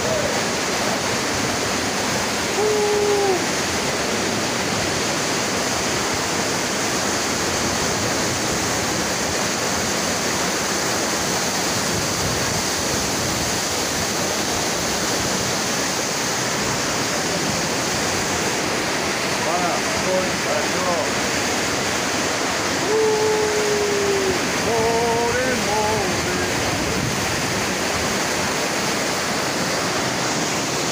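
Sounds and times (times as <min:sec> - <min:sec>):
river rapids rushing: 0:00.0 - 0:30.9.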